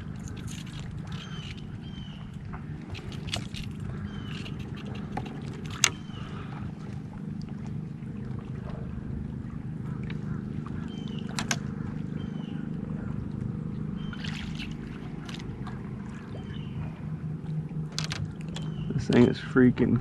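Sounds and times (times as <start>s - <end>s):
boat motor droning: 0.0s - 20.0s.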